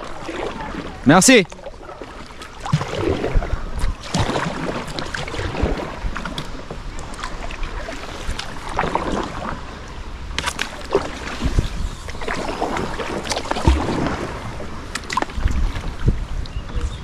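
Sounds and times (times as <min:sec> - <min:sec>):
kayak paddles splashing water: 0:00.0 - 0:16.8
wind rumbling on microphone: 0:01.7 - 0:17.0.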